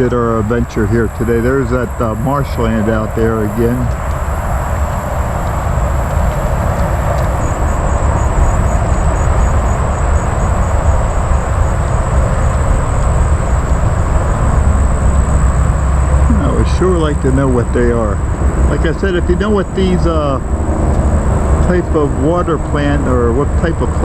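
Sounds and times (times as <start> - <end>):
outdoor rumble with hiss: 0.0 - 24.0.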